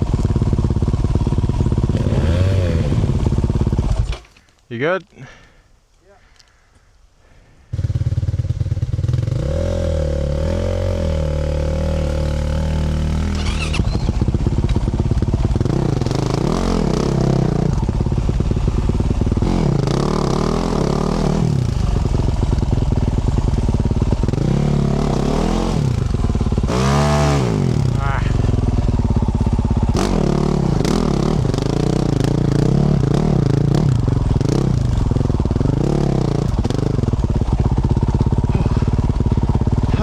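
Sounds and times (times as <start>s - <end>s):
dirt bike engine revving: 0.0s - 4.1s, 7.7s - 40.0s.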